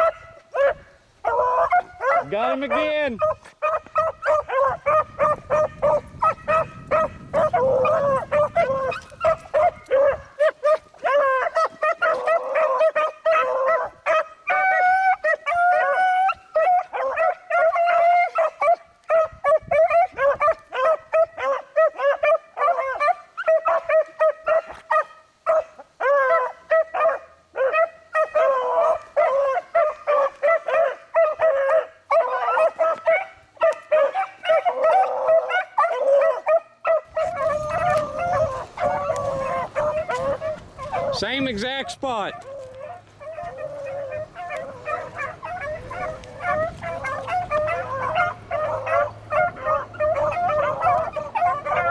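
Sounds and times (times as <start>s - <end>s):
hounds baying and barking: 0.0s - 51.9s
hounds howling: 0.0s - 51.9s.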